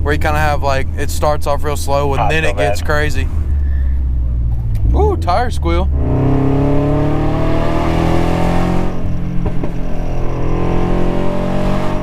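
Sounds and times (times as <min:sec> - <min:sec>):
car engine and exhaust: 0:00.0 - 0:12.0
tyre and road noise: 0:00.0 - 0:12.0.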